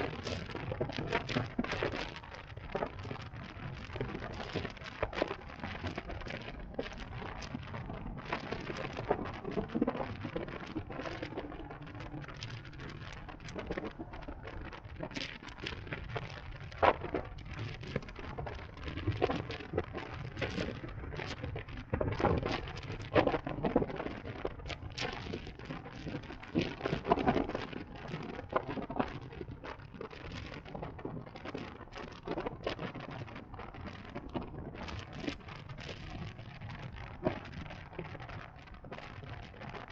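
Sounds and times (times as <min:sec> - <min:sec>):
sharp crackles and pops: 0:00.0 - 0:39.9.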